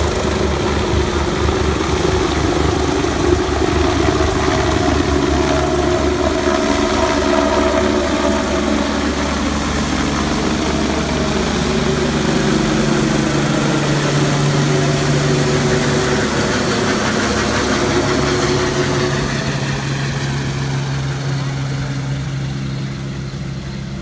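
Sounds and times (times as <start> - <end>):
helicopter turbine and rotor: 0.0 - 24.0.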